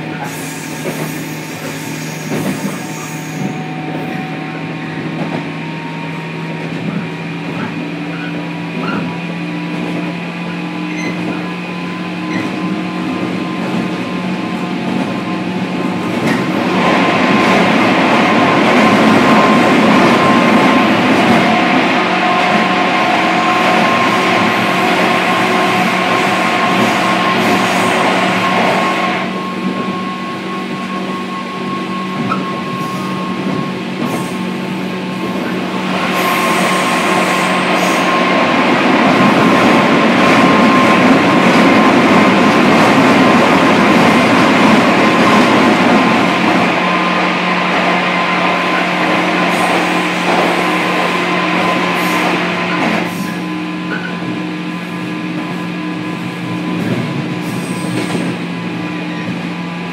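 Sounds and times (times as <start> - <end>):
train rail and motor noise: 0.0 - 59.9.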